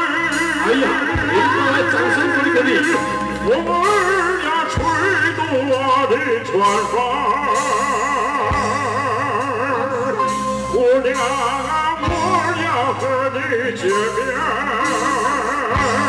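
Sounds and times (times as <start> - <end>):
amplified singing with vibrato: 0.0 - 16.0
live band playing: 0.0 - 16.0.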